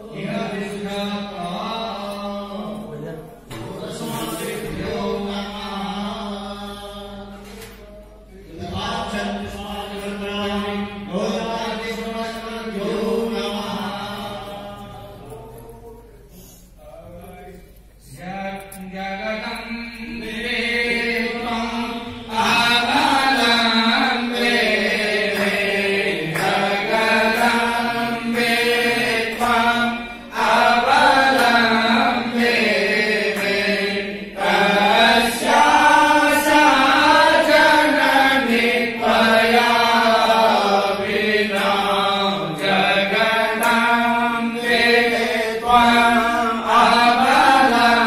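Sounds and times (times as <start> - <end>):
person chanting mantras: 0.0 - 48.0.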